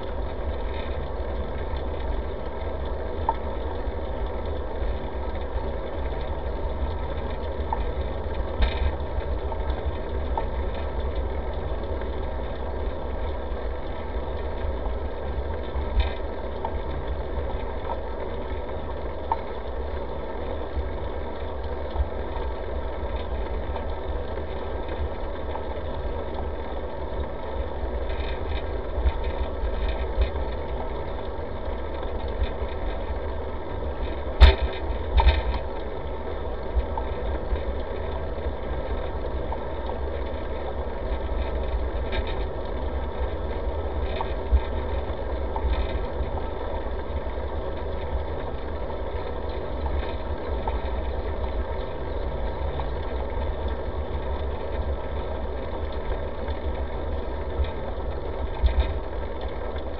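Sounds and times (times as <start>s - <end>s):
bicycle road rumble: 0.0s - 59.9s.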